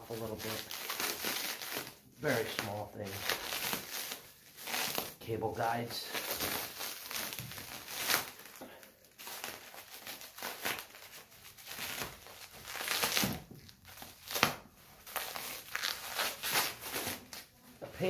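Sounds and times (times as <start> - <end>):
plastic wrapping crinkling and tearing: 0.0 - 17.8.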